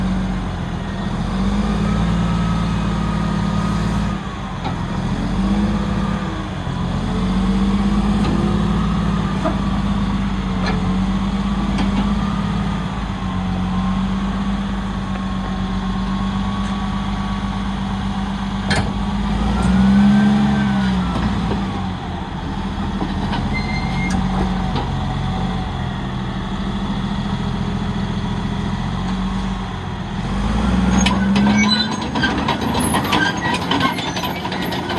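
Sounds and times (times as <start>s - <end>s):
bulldozer diesel engine: 0.0s - 34.9s.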